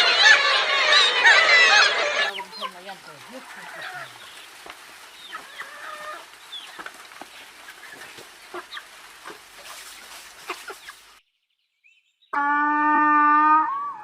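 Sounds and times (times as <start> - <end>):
chickens clucking: 0.0 - 11.2
background hiss: 0.0 - 11.3.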